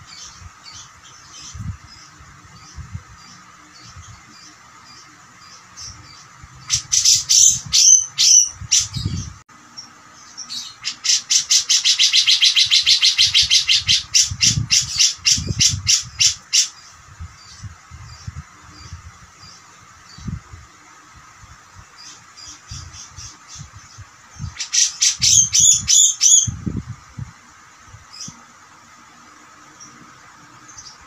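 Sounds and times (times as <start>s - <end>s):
bird singing harsh rattling calls: 0.0s - 20.5s, 21.8s - 26.8s, 28.0s - 31.0s.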